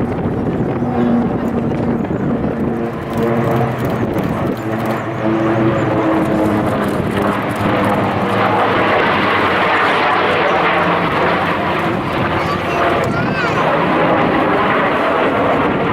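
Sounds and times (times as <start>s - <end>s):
aircraft engine roar: 0.0s - 15.9s.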